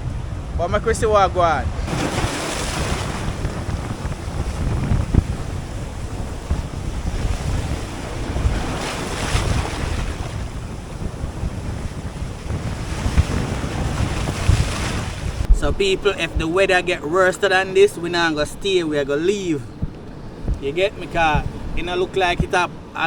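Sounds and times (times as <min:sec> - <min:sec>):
waves washing in: 0:00.0 - 0:23.0
wind buffeting microphone: 0:00.0 - 0:23.0.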